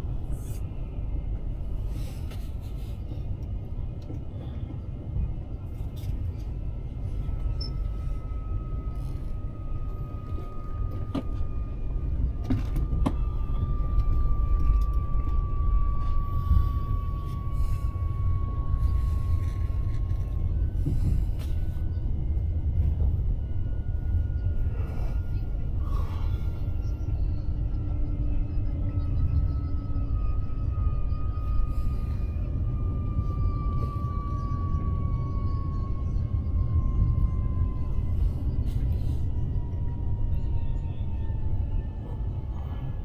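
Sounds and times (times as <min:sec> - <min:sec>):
train cabin rumble: 0:00.0 - 0:43.0.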